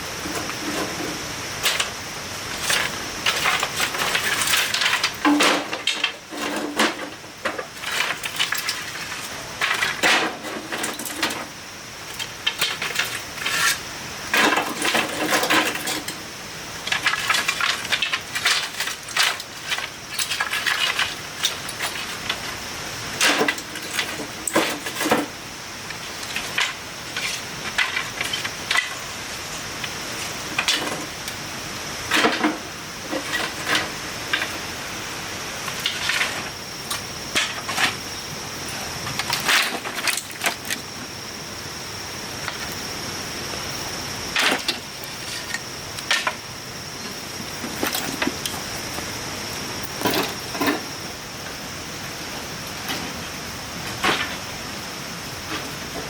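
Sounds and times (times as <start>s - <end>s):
high-pitched hiss: 0.0s - 56.0s.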